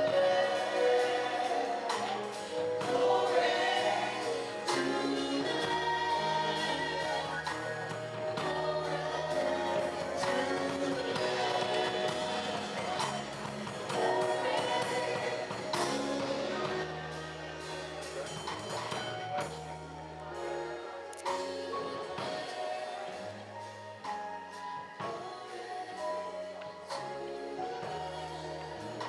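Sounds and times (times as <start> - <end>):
sustained bass notes: 0.0 - 24.0
gospel choir singing: 0.0 - 29.0.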